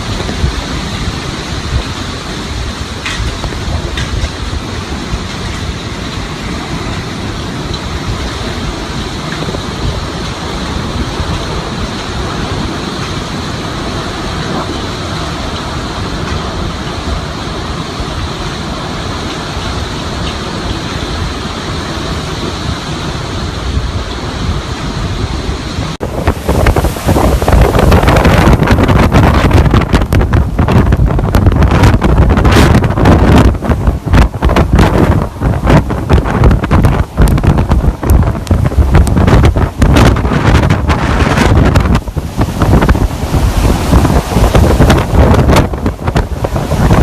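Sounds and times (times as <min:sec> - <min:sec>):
hurricane wind rushing: 0:00.0 - 0:47.0
wind buffeting microphone: 0:00.0 - 0:47.0.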